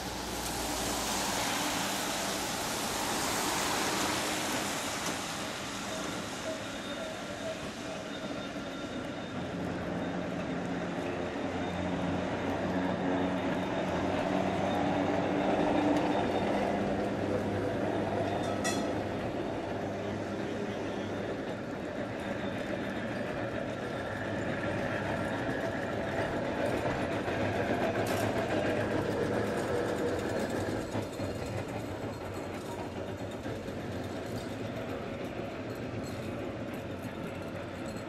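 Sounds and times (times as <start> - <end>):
steel wheels rumbling on rails: 0.0 - 38.0.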